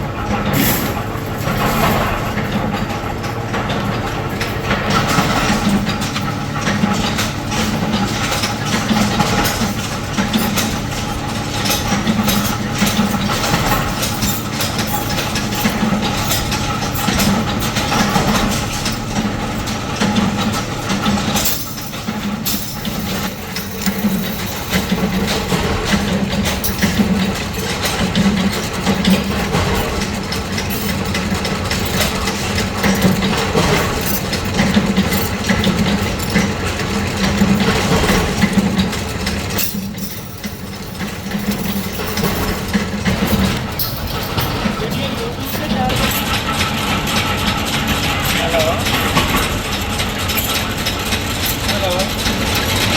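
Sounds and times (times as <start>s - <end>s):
workshop machinery humming: 0.0s - 52.9s
metallic clicks and clatter: 0.3s - 52.9s.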